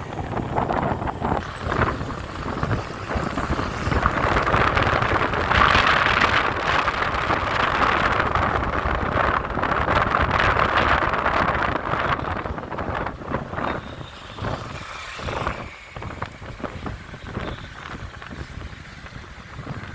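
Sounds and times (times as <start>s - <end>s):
vehicle road noise: 0.0s - 19.9s
wind rushing over microphone: 0.0s - 19.9s.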